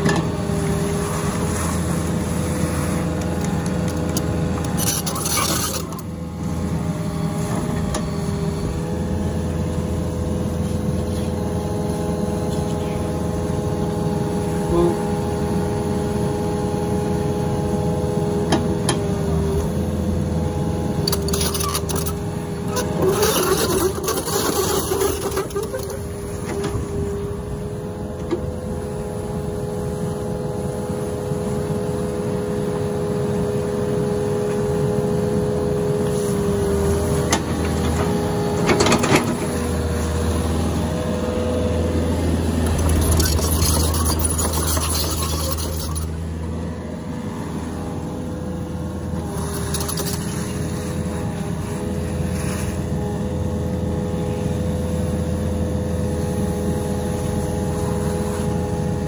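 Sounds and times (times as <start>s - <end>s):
excavator engine and hydraulics whine: 0.0s - 59.0s.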